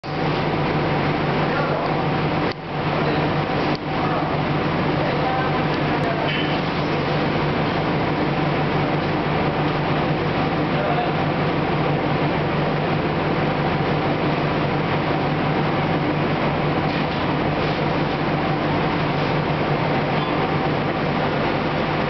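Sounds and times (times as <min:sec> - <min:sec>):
extraction fan rushing: 0:00.0 - 0:22.0
low machine hum: 0:00.0 - 0:22.0.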